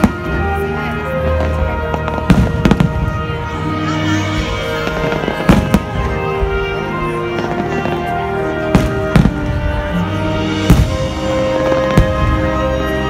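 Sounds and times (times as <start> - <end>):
fireworks bursting with sharp bangs: 0.0 - 13.0
music playing: 0.0 - 13.0.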